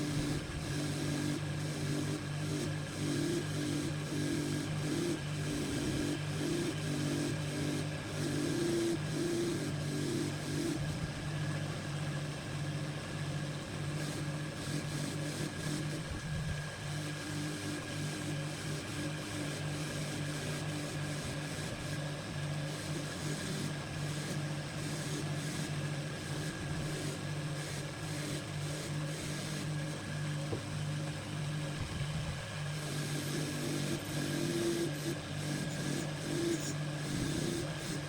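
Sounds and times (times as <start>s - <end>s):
machine motor humming with whine: 0.0s - 38.0s.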